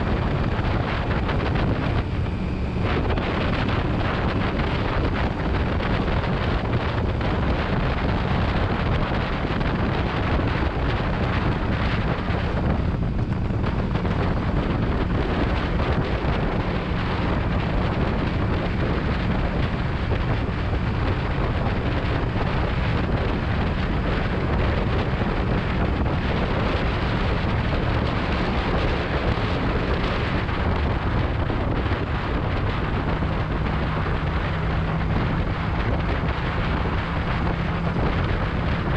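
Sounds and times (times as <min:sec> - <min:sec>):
motorcycle engine drone: 0:00.0 - 0:38.9
wind rush on microphone: 0:00.0 - 0:38.9.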